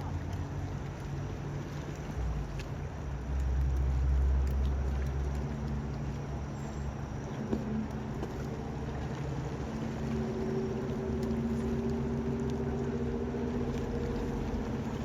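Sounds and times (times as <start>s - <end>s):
constant rushing noise: 0.0s - 15.0s.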